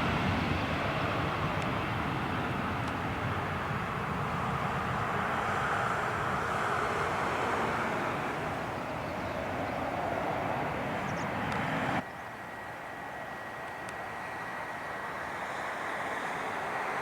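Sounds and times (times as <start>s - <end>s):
jet engines passing: 0.0s - 17.0s.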